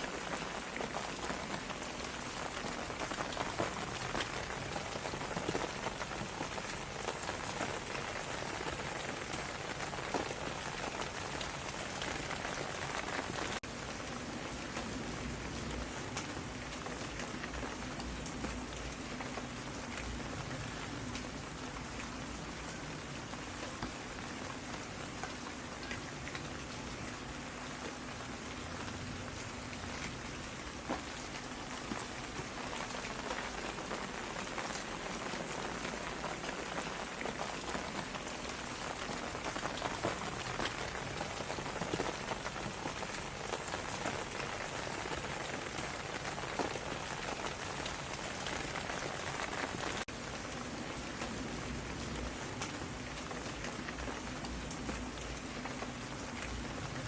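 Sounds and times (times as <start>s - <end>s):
raindrops ticking: 0.0s - 57.0s
steady rain: 0.0s - 57.0s.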